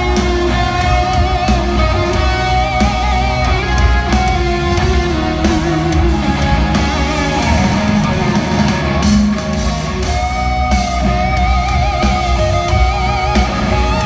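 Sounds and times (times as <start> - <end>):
hard rock band playing live: 0.0 - 14.0
held guitar lead note: 0.0 - 14.0.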